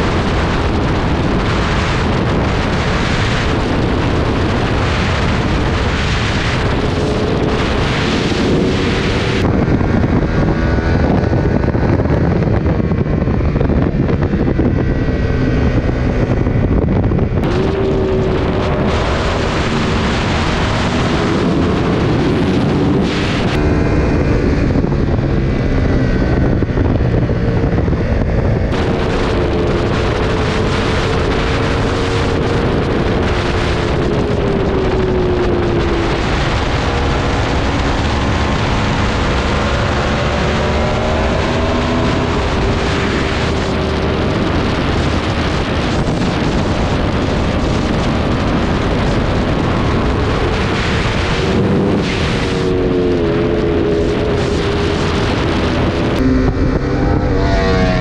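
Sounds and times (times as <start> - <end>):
motorcycle engine running hard: 0.0 - 58.0
wind rush on microphone: 0.0 - 58.0.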